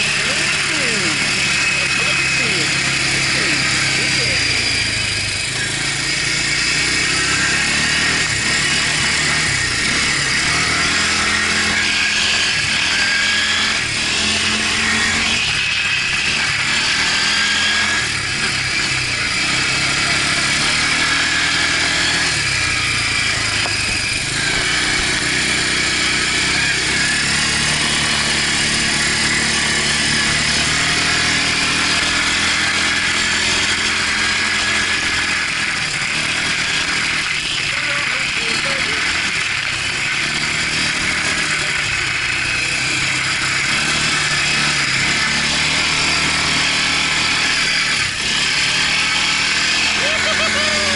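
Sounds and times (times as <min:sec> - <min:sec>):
quad bike engine revving: 0:00.0 - 0:50.9.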